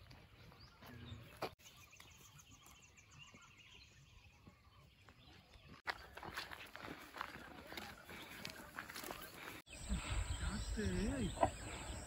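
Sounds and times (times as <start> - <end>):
distant bird calls: 0.0 - 12.0.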